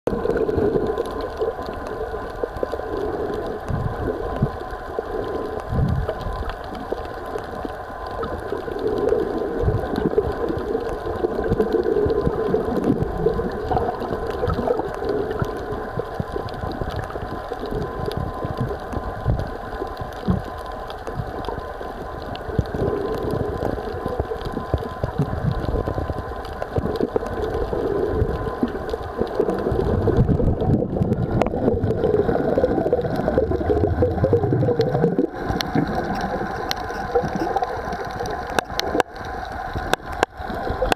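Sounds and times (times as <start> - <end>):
underwater low rumble: 0.1 - 40.9.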